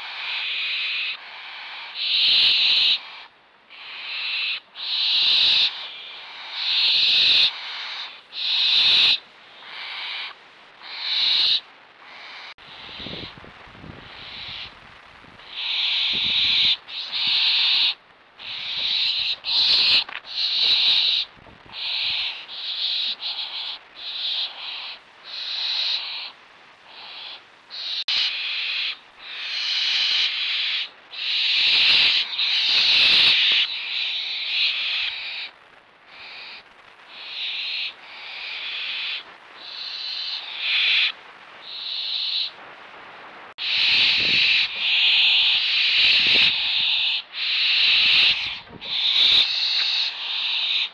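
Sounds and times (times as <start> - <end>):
young owls rasping hisses: 0.0 - 14.7, 15.4 - 42.6, 43.5 - 50.9.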